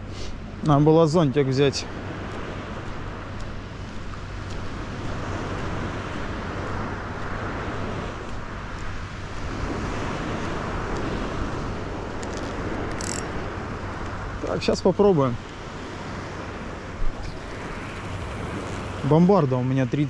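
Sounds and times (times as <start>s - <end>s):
sea surf washing on shore: 0.0s - 20.0s.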